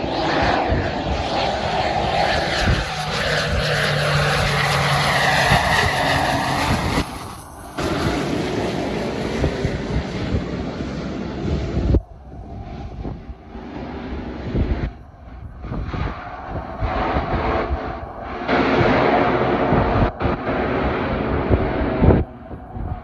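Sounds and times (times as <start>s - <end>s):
turboprop plane drone: 0.0s - 23.0s.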